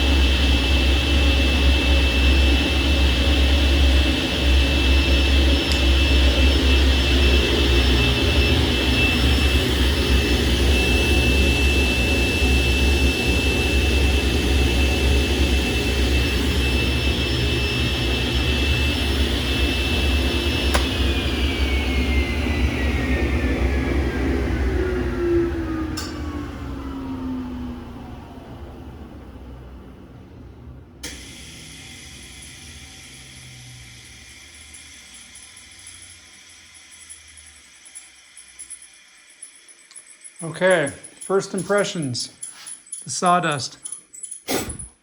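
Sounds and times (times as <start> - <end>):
table saw whining: 0.0 - 43.6.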